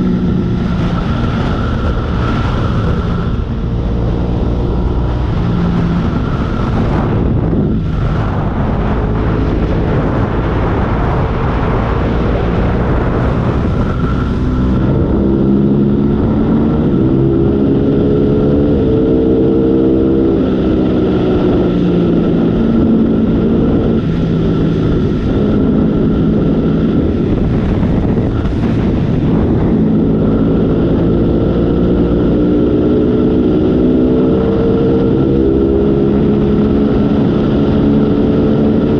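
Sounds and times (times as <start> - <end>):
motorcycle engine revving: 0.0 - 38.9
wind on microphone: 0.0 - 38.9.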